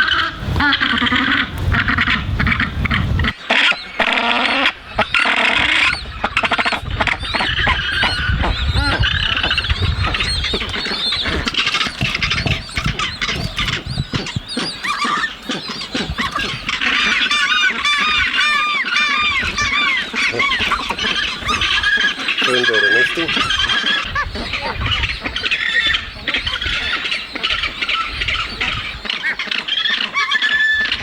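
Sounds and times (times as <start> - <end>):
sea lions roaring: 0.0 - 26.0
penguins calling: 0.0 - 31.0.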